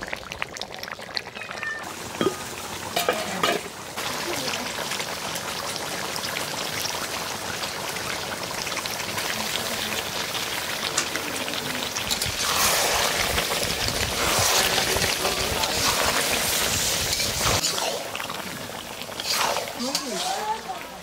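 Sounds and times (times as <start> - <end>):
curry sizzling in a pot: 0.0 - 21.0.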